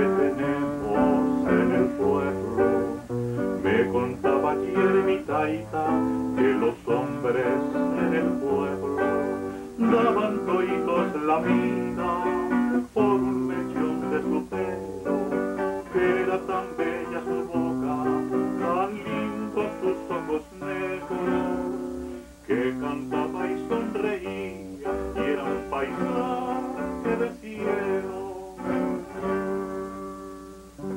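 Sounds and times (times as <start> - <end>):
man singing: 0.0 - 29.7
acoustic guitar chords: 0.0 - 30.9.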